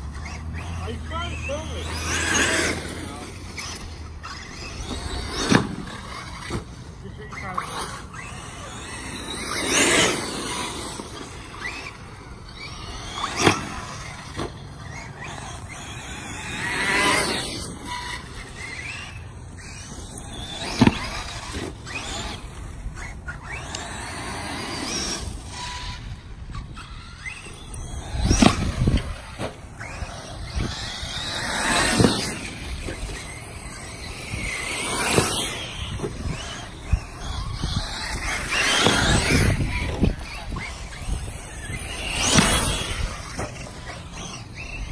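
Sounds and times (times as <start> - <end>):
electric motors whining: 0.0 - 44.9.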